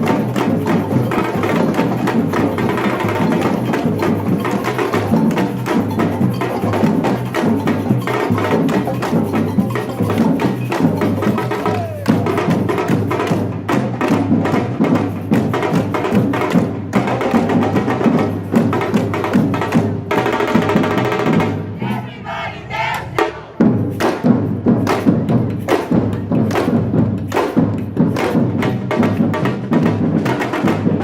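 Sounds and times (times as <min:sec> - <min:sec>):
samba percussion drumming: 0:00.0 - 0:31.0.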